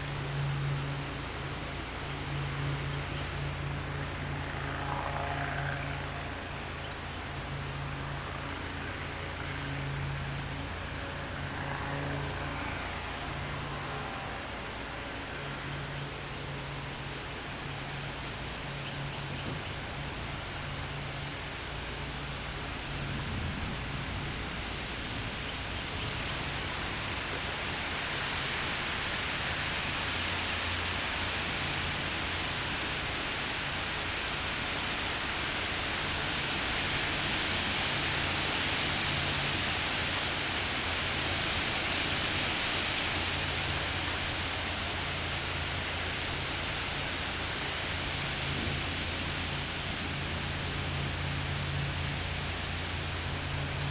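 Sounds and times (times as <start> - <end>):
strong gusty wind: 6.0 - 53.9.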